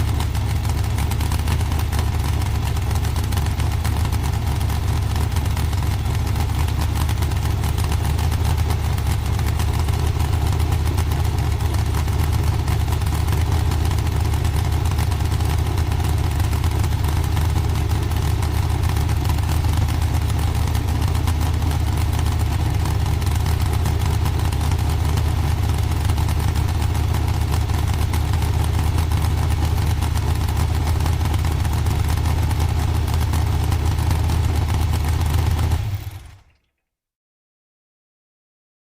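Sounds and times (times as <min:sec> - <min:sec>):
dragster engine idling: 0:00.0 - 0:36.5.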